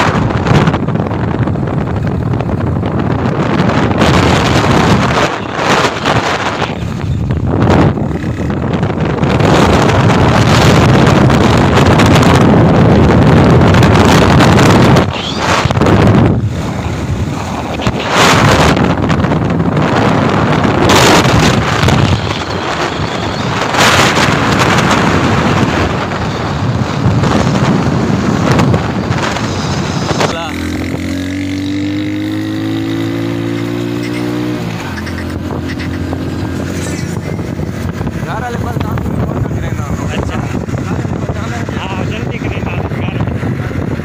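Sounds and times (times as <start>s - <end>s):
vehicle running noise: 0.0s - 44.0s
wind buffeting microphone: 0.0s - 44.0s.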